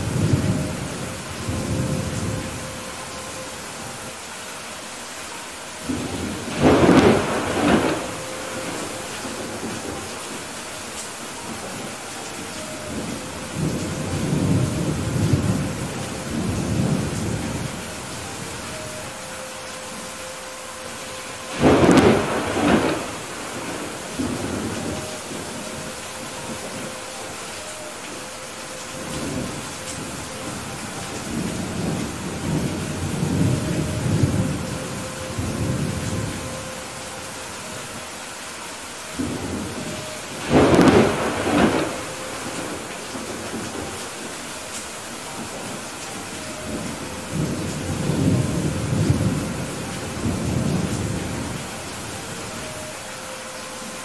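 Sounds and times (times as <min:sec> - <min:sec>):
rolling thunder rumble: 0:00.0 - 0:04.1, 0:05.8 - 0:19.2, 0:20.9 - 0:38.0, 0:39.0 - 0:44.5, 0:45.2 - 0:52.8
heavy rain falling: 0:00.0 - 0:54.0.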